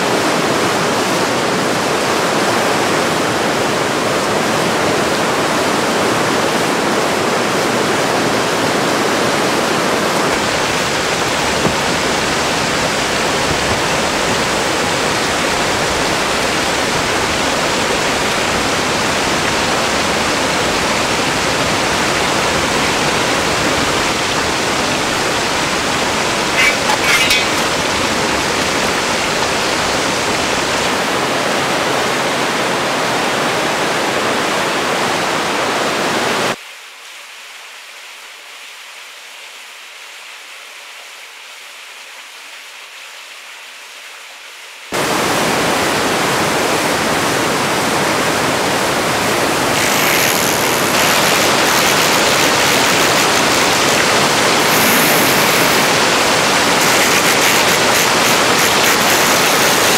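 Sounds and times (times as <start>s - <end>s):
waterfall rushing: 0.0s - 36.6s, 45.0s - 59.9s.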